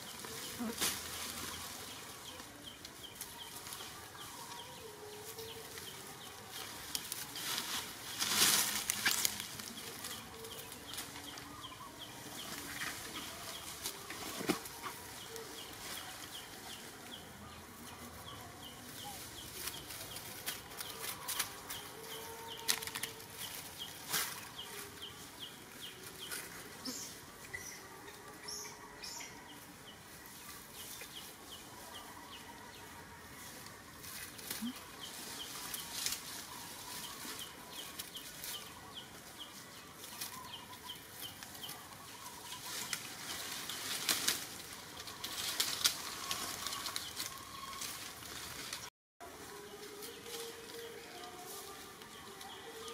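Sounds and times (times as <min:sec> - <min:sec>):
dry leaves rustling: 0:00.0 - 0:52.9.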